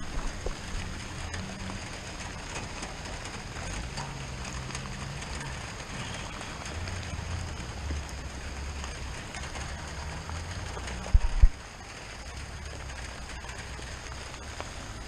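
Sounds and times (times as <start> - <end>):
low rumble on microphone: 0.0 - 15.0
rain pattering: 0.0 - 15.0.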